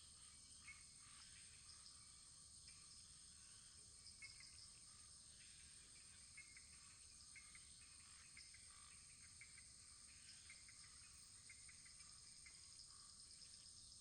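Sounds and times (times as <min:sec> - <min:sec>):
insect chirps: 0:00.0 - 0:14.0.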